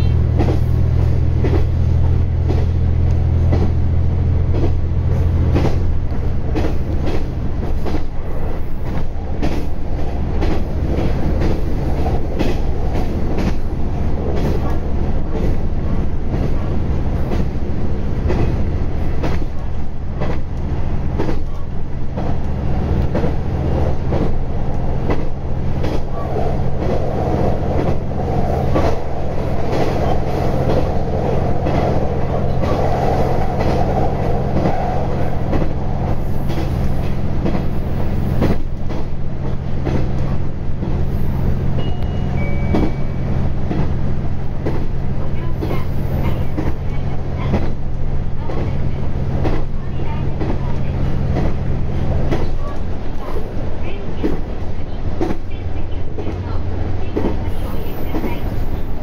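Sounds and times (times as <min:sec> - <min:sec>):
diesel railcar engine rumble: 0:00.0 - 0:59.0.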